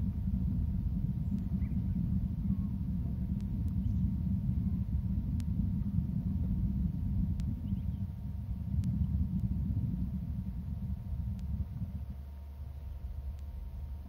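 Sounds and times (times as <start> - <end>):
faint hum: 0.0 - 14.0
wind buffeting microphone: 0.0 - 14.0
faint clicks: 0.1 - 5.8, 6.4 - 9.7, 10.6 - 12.2, 12.8 - 13.8.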